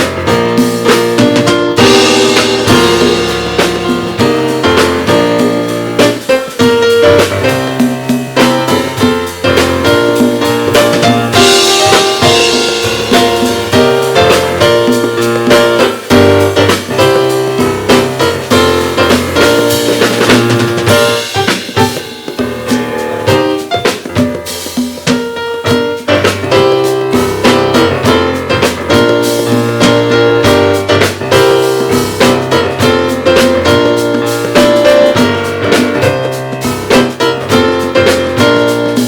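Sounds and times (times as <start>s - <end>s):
bass: 0.0s - 39.0s
drum kit beat: 0.0s - 39.0s
live band music: 0.0s - 39.0s
piano chords: 0.0s - 39.0s.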